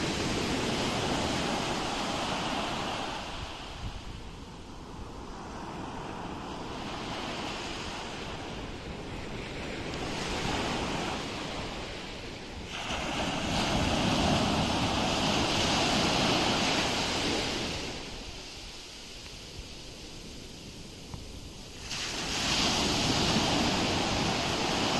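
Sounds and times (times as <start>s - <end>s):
ocean waves washing ashore: 0.0s - 24.9s.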